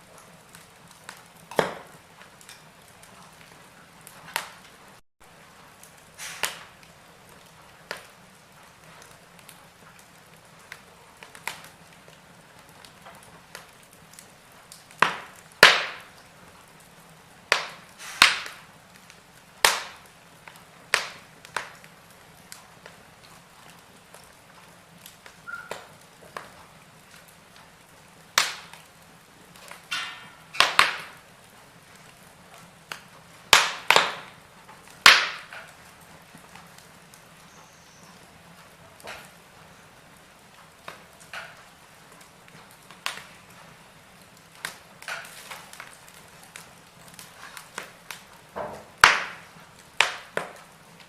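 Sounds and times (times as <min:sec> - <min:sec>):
faint steady hiss: 0:00.0 - 0:51.0
wood fire crackling: 0:00.0 - 0:51.0.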